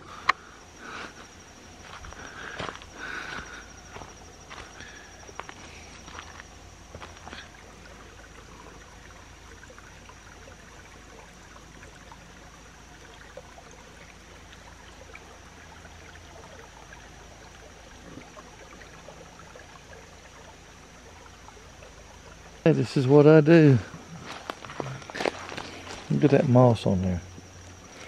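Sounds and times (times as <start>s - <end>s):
faint trickle of water over rocks: 0.0s - 28.0s.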